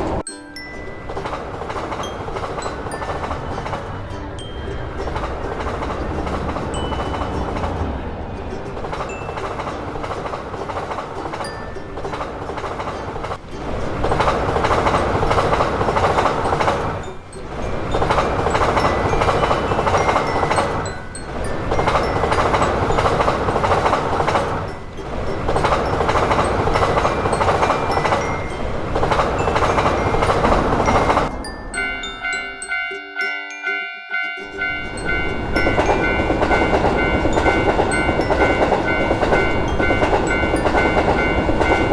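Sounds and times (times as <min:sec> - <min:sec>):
train wheels rumbling on rails: 0:00.0 - 0:32.8, 0:34.4 - 0:41.9.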